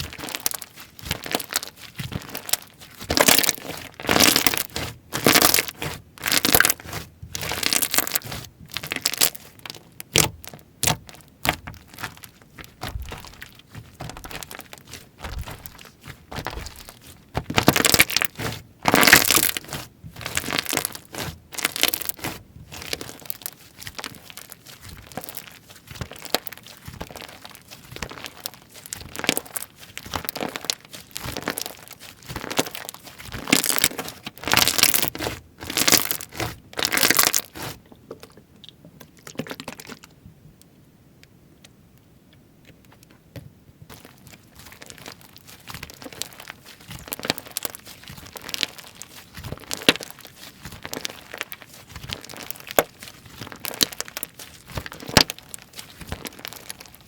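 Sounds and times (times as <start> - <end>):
slime squishing by hand: 0.0 - 40.2, 43.9 - 57.0.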